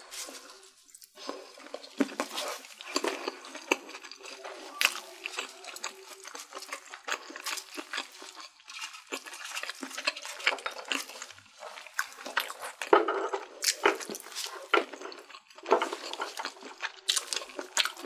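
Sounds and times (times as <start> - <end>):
wet chewing mouth sounds: 0.0 - 18.0.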